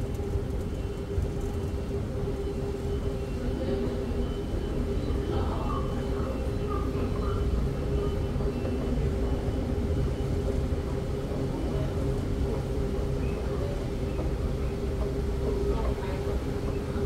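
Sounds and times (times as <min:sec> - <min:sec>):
constant hum: 0:00.0 - 0:17.0.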